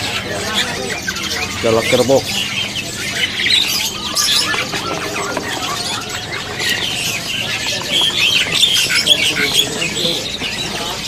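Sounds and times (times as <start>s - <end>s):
birds chattering and squawking: 0.0s - 11.0s.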